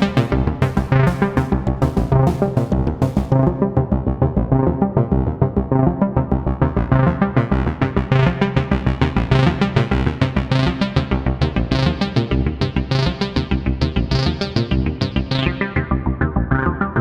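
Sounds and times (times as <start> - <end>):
sequenced synthesizer notes: 0.0 - 17.0
synthesizer bassline: 0.0 - 17.0.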